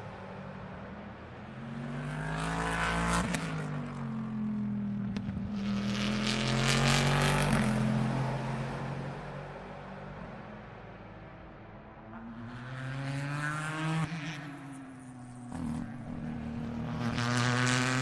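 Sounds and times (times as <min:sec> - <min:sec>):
race cars passing by: 0:00.0 - 0:18.0.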